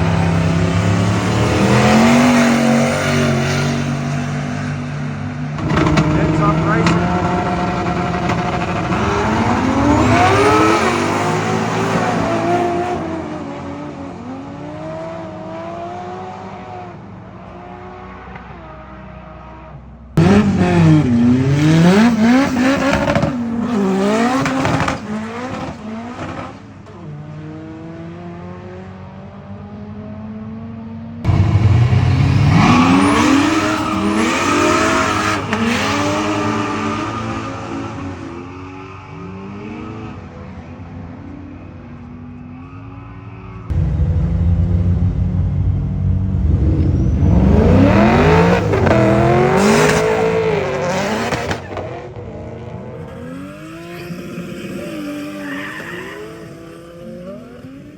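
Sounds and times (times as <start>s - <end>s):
car engines accelerating hard: 0.0s - 57.9s.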